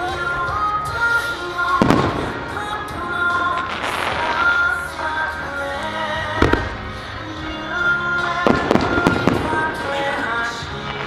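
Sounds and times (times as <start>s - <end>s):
song playing: 0.0s - 11.0s
fireworks bursting: 1.0s - 7.2s, 8.4s - 11.0s.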